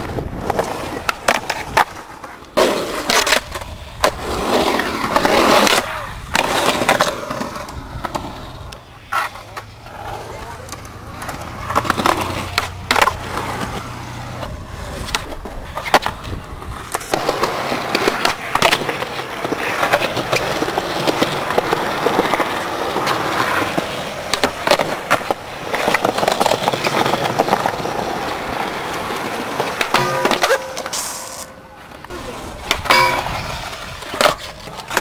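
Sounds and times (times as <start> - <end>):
skateboard popping and landing clacks: 0.0 - 35.0
skateboard scraping a rail: 0.0 - 35.0
skateboard wheels rolling on concrete: 0.0 - 35.0.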